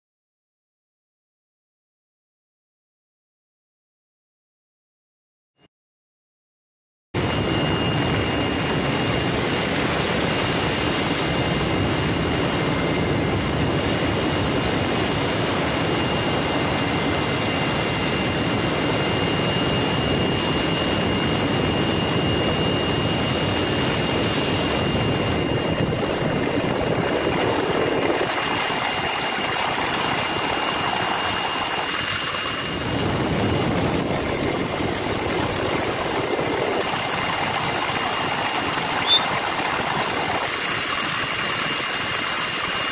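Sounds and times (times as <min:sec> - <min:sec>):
helicopter engine and rotor: 0:07.2 - 0:42.9.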